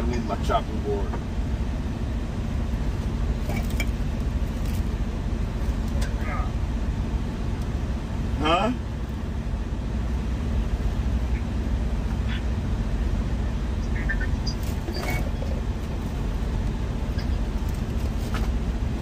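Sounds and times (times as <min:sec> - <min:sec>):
truck diesel engine idling: 0:00.0 - 0:19.0.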